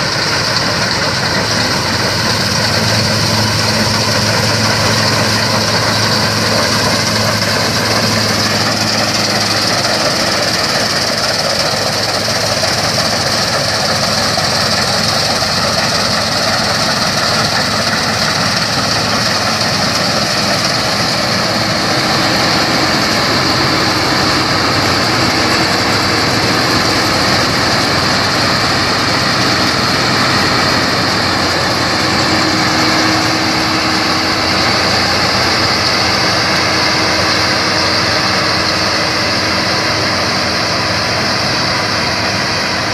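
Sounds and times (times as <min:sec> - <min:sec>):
combine harvester running: 0:00.0 - 0:42.9
high whine: 0:00.0 - 0:42.9.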